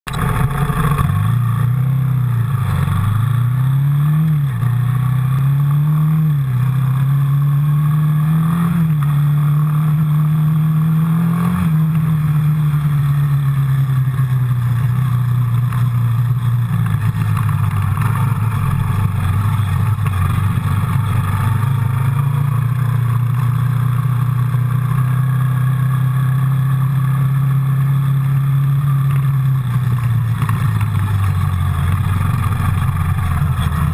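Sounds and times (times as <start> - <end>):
quad bike engine revving: 0.0 - 33.9.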